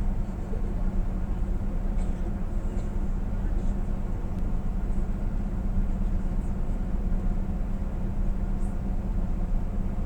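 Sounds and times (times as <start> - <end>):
vehicle engine drone and road noise: 0.0 - 10.0.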